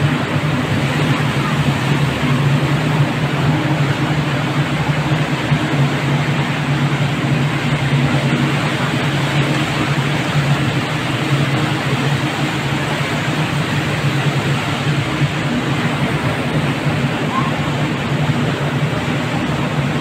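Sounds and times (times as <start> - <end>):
boat engine droning: 0.0 - 20.0
water rushing: 0.0 - 20.0
wind: 0.0 - 20.0.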